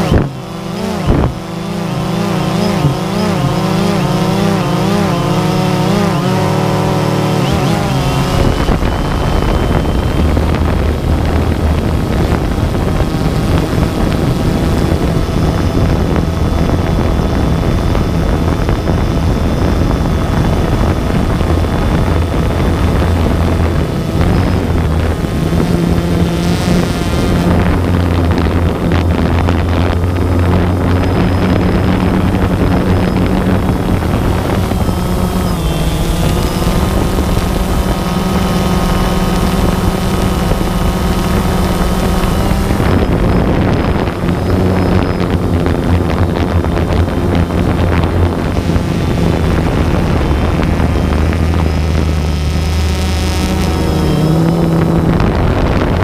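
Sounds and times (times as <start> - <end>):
drone propellers buzzing: 0.0 - 56.0
wind on microphone: 0.0 - 56.0.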